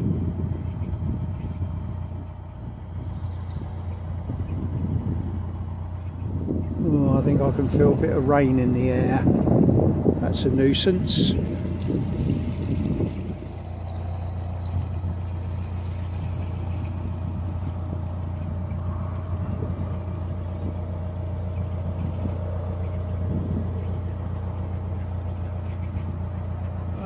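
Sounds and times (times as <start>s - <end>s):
diesel boat engine droning: 0.0s - 27.0s.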